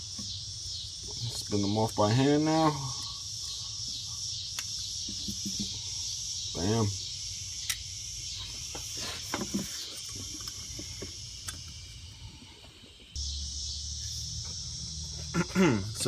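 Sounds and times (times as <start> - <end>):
crickets chirring: 0.0 - 16.0
steady low hum: 0.0 - 16.0.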